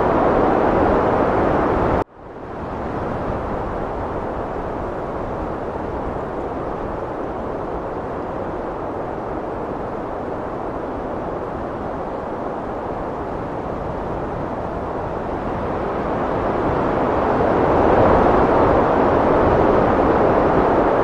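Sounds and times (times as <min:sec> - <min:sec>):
heavy wind blowing: 0:00.0 - 0:21.0.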